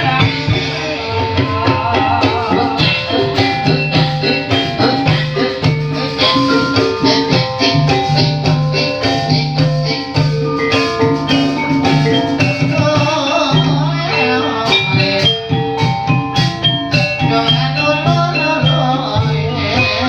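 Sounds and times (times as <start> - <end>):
steady drum pattern: 0.0 - 20.0
tuned struck percussion melody: 0.0 - 20.0.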